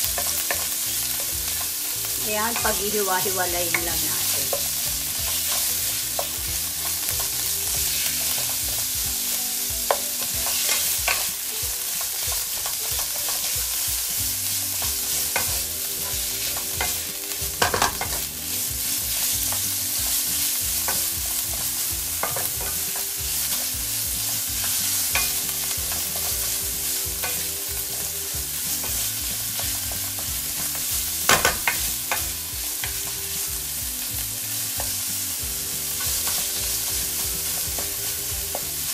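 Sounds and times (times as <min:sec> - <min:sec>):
meat sizzling in oil: 0:00.0 - 0:38.9.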